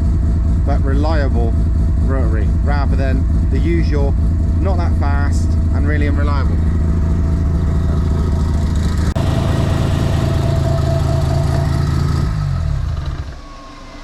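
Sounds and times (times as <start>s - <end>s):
rotary engine idling: 0.0s - 13.4s.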